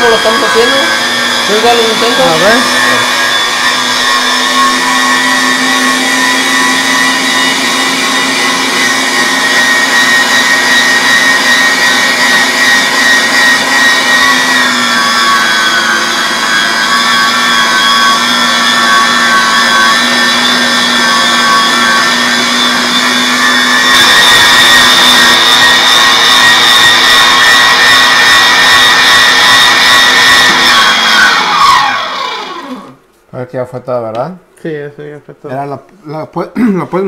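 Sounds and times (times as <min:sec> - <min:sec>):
electric meat grinder motor hum: 0:00.0 - 0:33.0.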